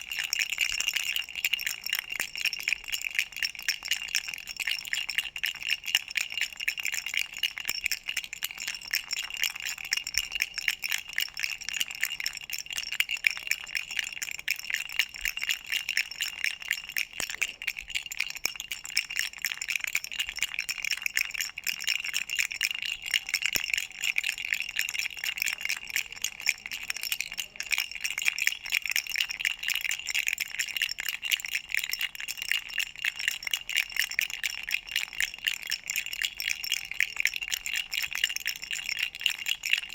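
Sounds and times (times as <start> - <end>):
toy rattle jingling: 0.0 - 39.9.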